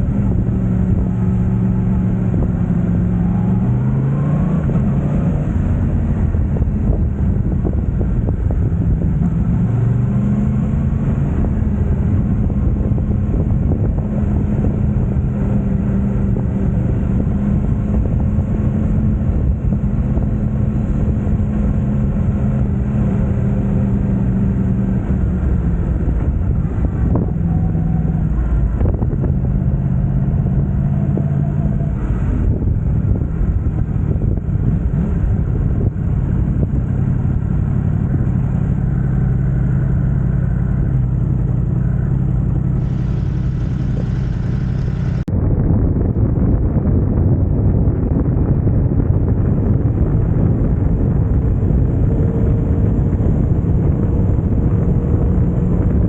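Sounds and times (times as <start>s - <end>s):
motorcycle engine running: 4.7s - 56.0s.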